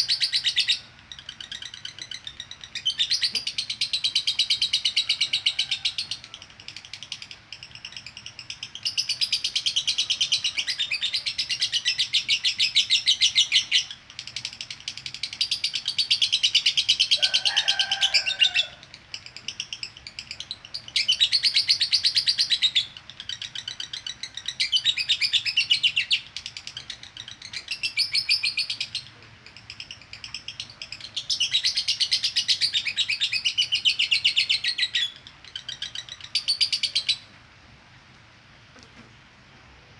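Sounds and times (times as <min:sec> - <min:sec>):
lovebird chattering trills: 0:00.0 - 0:37.3.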